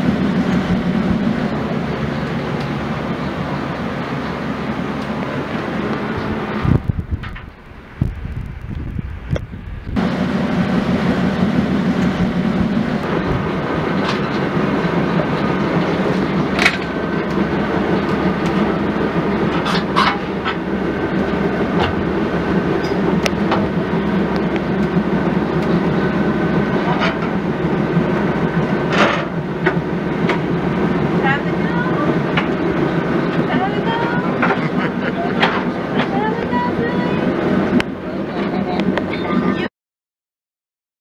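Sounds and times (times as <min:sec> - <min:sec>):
boat engine humming: 0:00.0 - 0:39.7.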